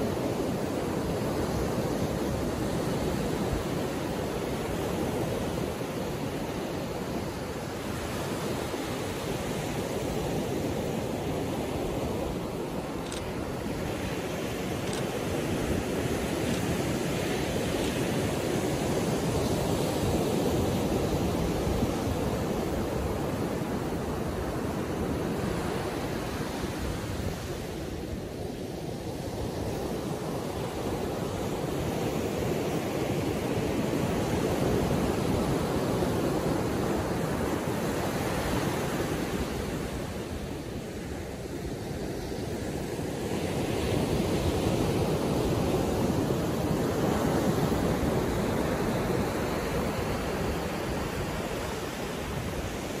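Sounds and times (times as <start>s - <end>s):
waves breaking on beach: 0.0s - 53.0s.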